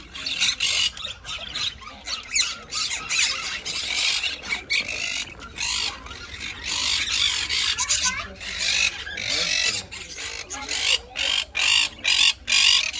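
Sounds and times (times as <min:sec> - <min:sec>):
budgerigars chattering: 0:00.0 - 0:12.9.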